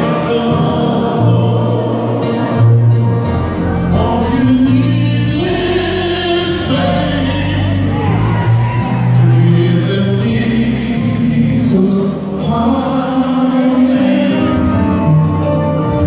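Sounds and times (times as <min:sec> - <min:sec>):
male vocal group singing: 0:00.0 - 0:15.4
live band playing: 0:00.0 - 0:16.0.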